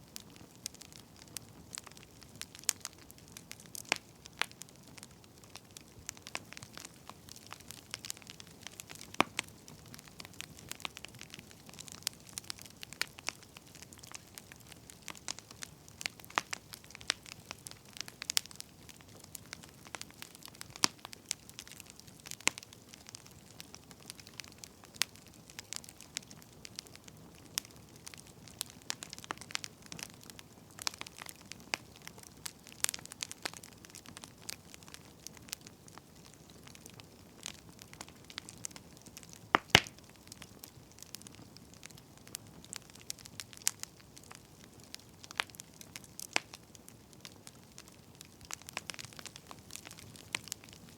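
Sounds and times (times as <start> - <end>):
firewood crackling and popping: 0.0 - 50.9
soft hiss of fire: 0.0 - 50.9.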